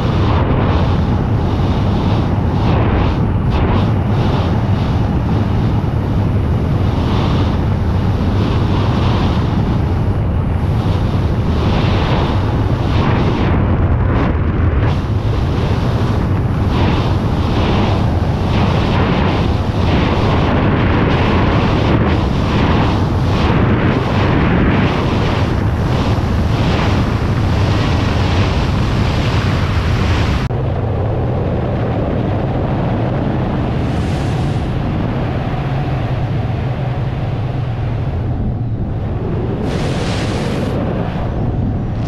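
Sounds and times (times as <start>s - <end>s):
loud wind buffeting microphone: 0.0s - 42.0s.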